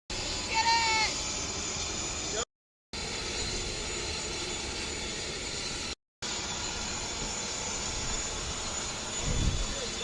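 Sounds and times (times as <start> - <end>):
jet engines running: 0.1 - 2.4, 3.0 - 10.0.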